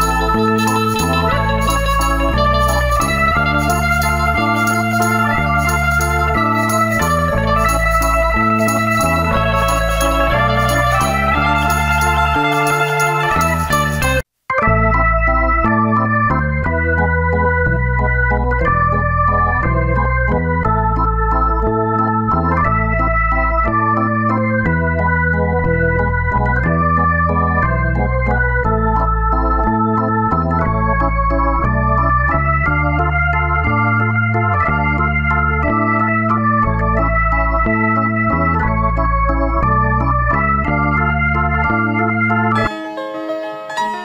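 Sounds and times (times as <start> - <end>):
bass line: 0.0 - 42.7
organ-like keyboard chords: 0.0 - 44.0.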